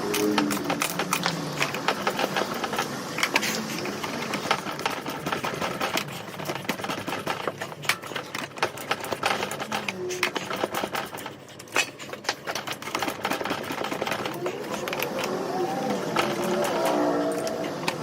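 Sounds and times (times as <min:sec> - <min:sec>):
rapid metallic clicks and clatter: 0:00.0 - 0:18.0.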